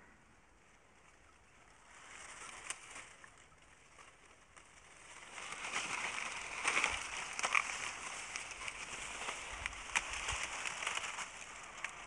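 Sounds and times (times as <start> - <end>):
dry grass rustling: 0.3 - 12.0.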